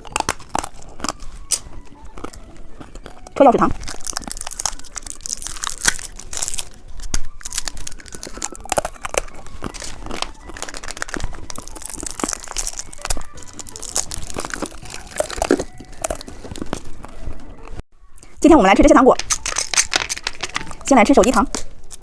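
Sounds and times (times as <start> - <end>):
wrapper tearing: 0.0 - 17.2, 19.2 - 20.9, 21.5 - 22.0
plastic candy wrappers crinkling: 0.0 - 17.8, 19.2 - 22.0.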